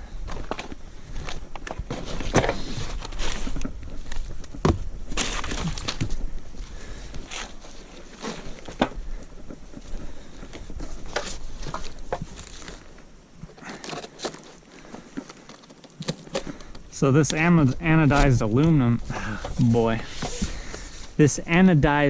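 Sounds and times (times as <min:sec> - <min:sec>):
packaging crinkling and rustling: 0:00.3 - 0:21.2.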